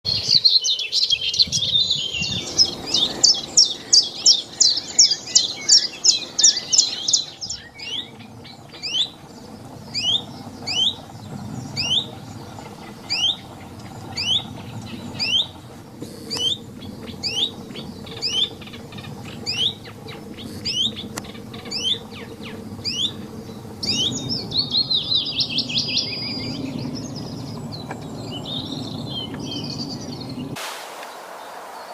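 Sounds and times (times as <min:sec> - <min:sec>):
songbird calling: 0:00.1 - 0:31.9.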